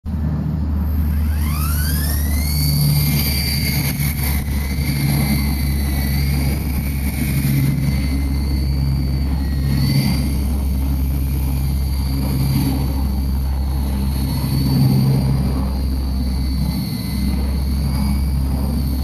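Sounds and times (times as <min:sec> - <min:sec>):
rc helicopter motor whine: 0:00.1 - 0:19.0
steady low hum: 0:00.1 - 0:19.0.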